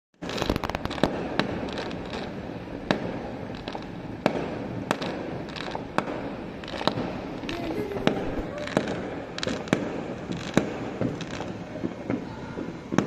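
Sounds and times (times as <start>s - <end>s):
continuous background din: 0.2s - 13.0s
fireworks bangs: 0.2s - 13.0s.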